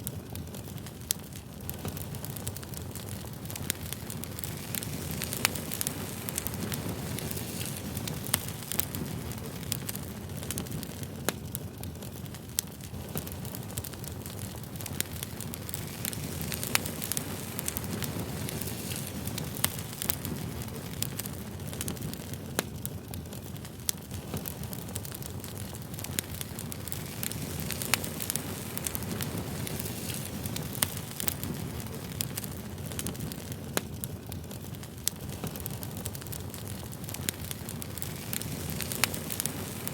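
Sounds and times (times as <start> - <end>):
burning wood crackling and popping: 0.0 - 39.9
rush of flames: 0.0 - 39.9.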